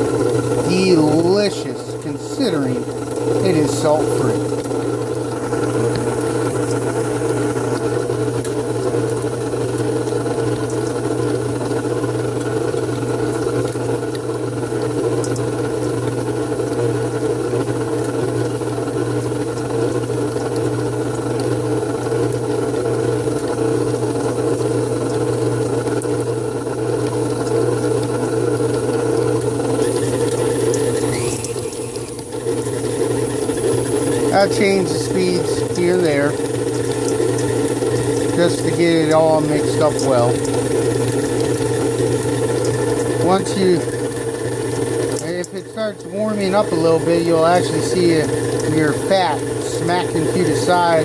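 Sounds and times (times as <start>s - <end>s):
beater mixing ground meat: 0.0s - 51.0s
stand mixer motor running: 0.0s - 51.0s.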